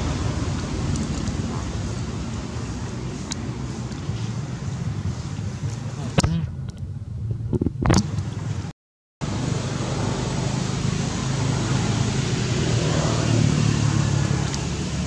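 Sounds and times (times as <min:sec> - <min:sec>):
vehicle noise with low hum: 0:00.0 - 0:15.0.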